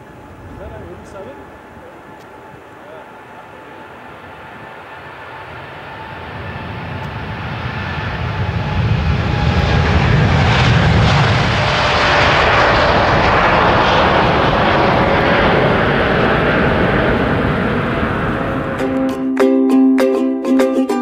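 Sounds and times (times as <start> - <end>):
jet engines at takeoff: 0.0 - 19.1.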